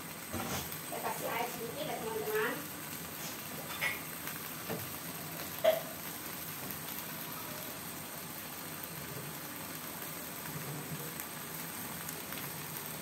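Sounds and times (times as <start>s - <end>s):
faint crackles: 0.0s - 13.0s
stir-fry sizzling in a wok: 0.0s - 13.0s.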